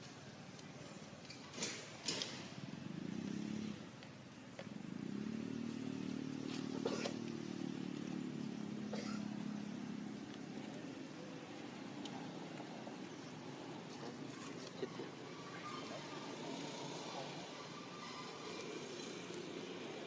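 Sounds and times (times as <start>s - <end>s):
vehicle engine running: 2.6s - 20.0s.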